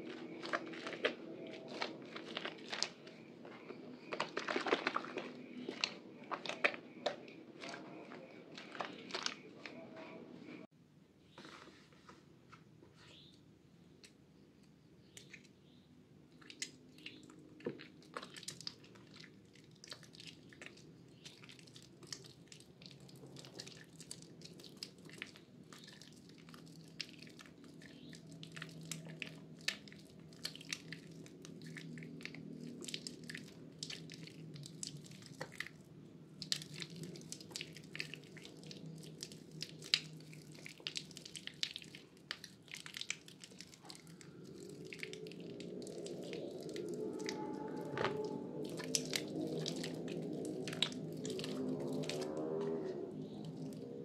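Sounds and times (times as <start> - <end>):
wet soap squished in hands: 0.0 - 10.6, 16.3 - 54.0.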